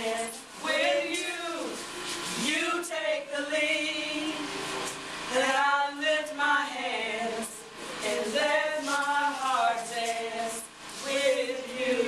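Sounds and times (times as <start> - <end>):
worship song singing: 0.0 - 12.0.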